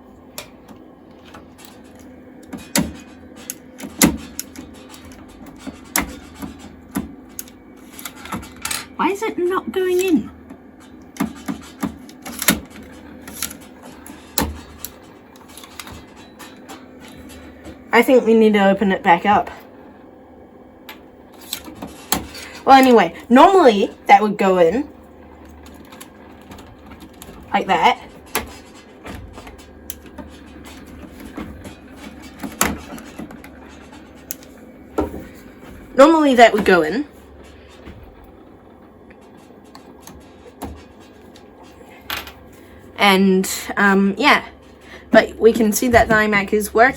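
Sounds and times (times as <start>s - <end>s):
computer low hum: 0.0s - 46.9s.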